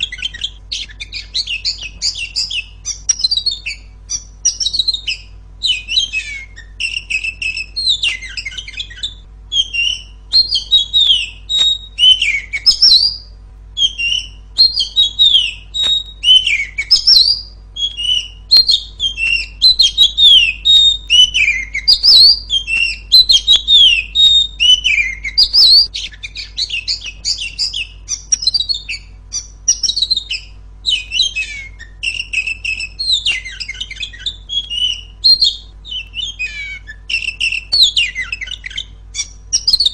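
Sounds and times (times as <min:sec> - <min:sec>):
bird singing whistles: 0:00.0 - 0:39.9.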